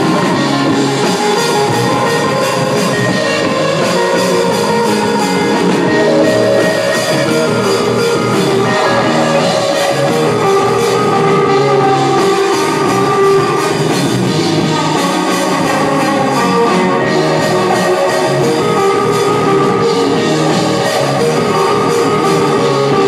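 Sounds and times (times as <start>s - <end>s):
drum kit beat: 0.0s - 23.0s
electric guitar: 0.0s - 23.0s
keyboards: 0.0s - 23.0s.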